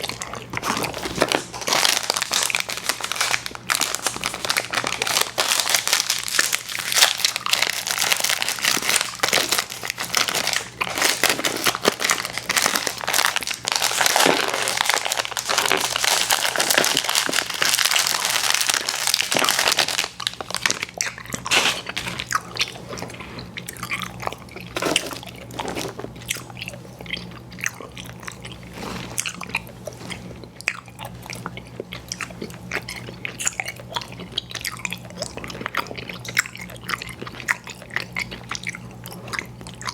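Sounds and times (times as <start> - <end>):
chewing chewy candies: 0.0 - 39.9.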